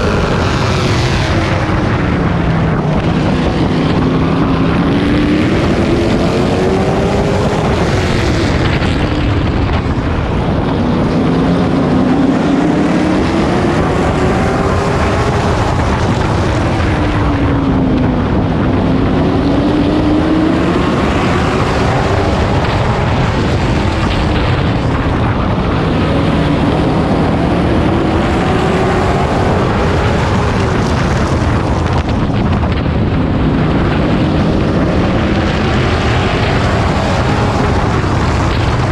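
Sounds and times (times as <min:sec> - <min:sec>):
wind rushing past microphone: 0:00.0 - 0:38.9.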